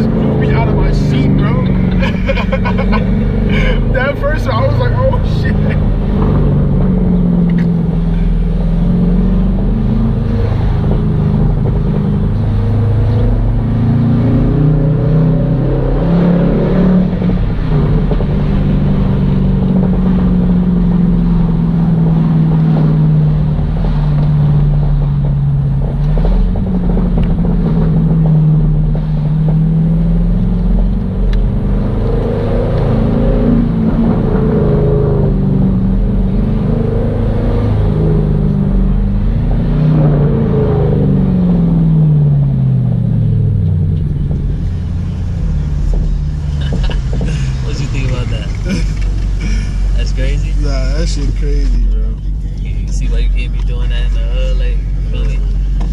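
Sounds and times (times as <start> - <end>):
loud engine and exhaust accelerating: 0.0 - 55.9.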